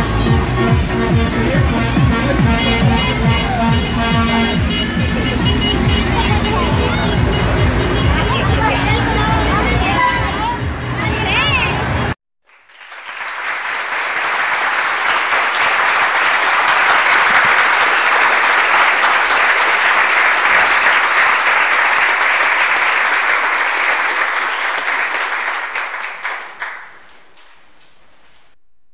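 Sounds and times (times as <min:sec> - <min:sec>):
crowd applauding: 0:00.0 - 0:08.0, 0:12.5 - 0:28.0.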